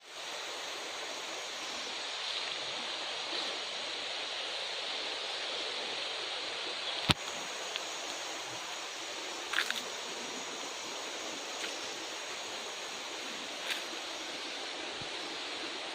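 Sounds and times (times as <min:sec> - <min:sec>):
flowing water: 0:00.0 - 0:15.9.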